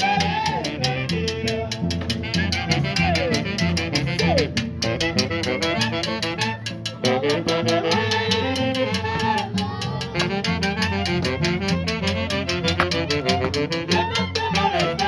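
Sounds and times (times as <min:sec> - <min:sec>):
folk orchestra with wind instruments: 0:00.0 - 0:15.0.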